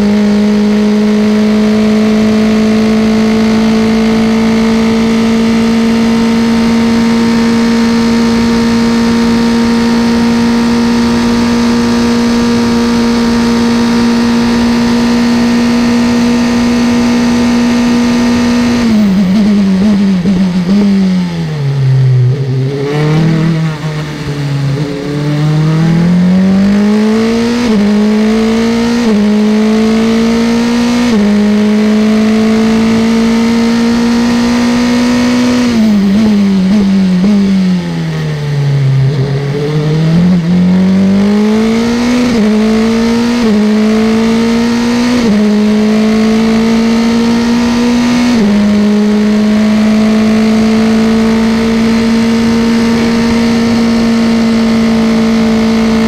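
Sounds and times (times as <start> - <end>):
racing car engine revving and downshifting: 0.0 - 56.0.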